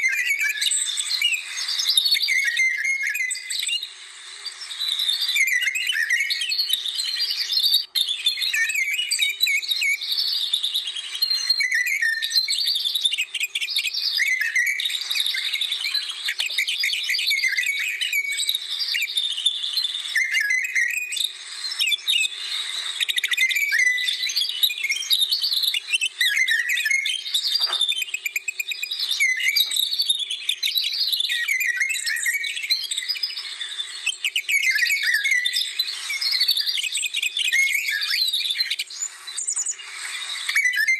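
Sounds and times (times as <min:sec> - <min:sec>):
songbirds chorus: 0:00.0 - 0:40.9.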